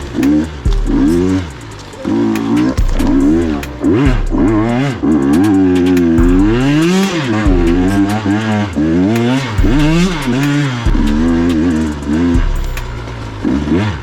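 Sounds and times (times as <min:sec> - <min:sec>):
two-stroke dirt bike engine revving: 0:00.0 - 0:14.0.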